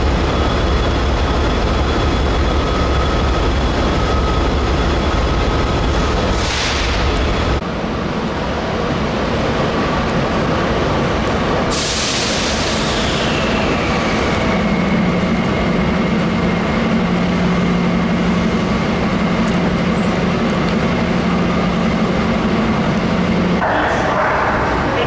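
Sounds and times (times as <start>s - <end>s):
locomotive engine rumble: 0.0s - 25.0s.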